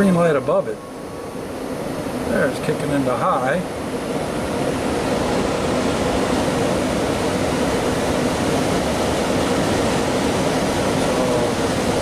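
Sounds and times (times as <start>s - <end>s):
blower fan whooshing air: 0.0s - 12.0s.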